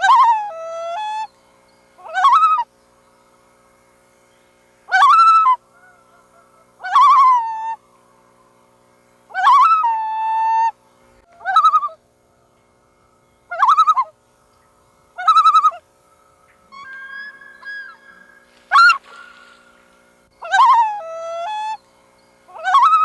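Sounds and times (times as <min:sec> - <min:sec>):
loons calling: 0:00.0 - 0:03.7, 0:04.4 - 0:23.0.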